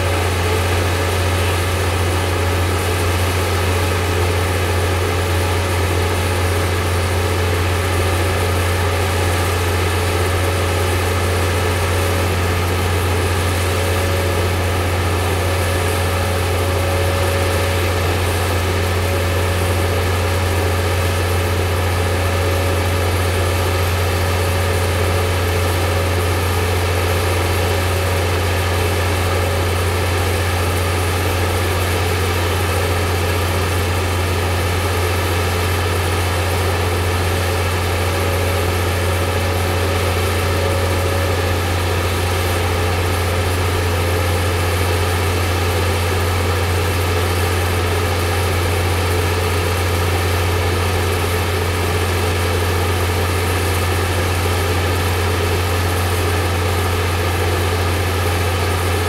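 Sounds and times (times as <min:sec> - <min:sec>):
crane engine droning: 0:00.0 - 0:59.0.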